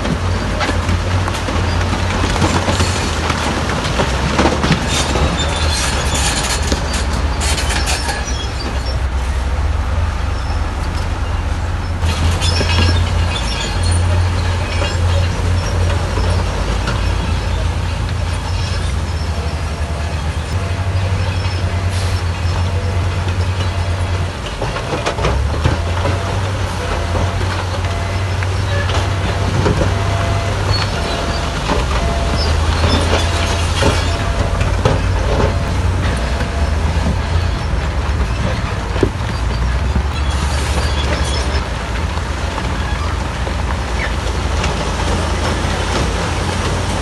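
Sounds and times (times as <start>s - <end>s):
bulldozer diesel engine rumbling: 0.0s - 47.0s
rocks grinding: 0.0s - 47.0s
steel tracks clanking: 0.0s - 47.0s.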